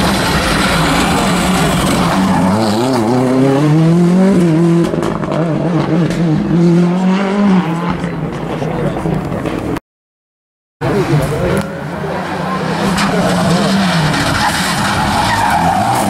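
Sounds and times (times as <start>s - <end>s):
rally car engine passing: 0.0s - 9.6s, 10.8s - 16.0s.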